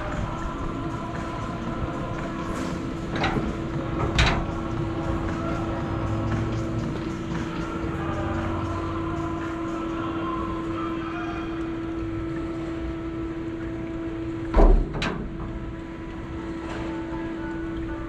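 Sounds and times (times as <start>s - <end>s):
boat drifting through water: 0.0s - 18.0s
steady hum: 0.0s - 18.0s.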